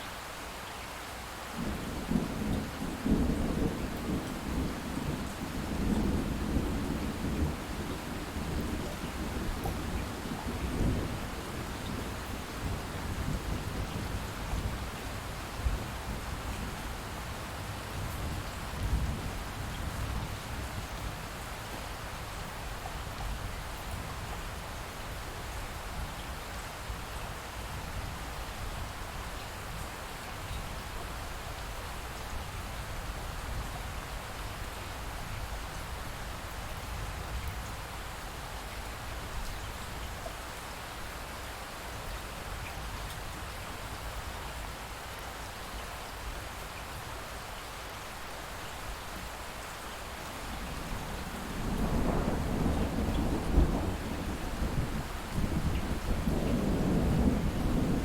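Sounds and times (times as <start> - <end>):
light rain falling: 0.0 - 58.0.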